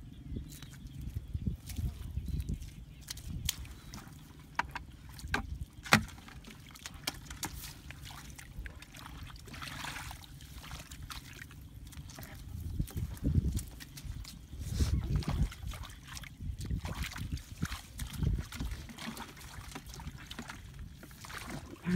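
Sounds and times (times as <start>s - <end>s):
muddy water sloshing: 0.0s - 21.9s.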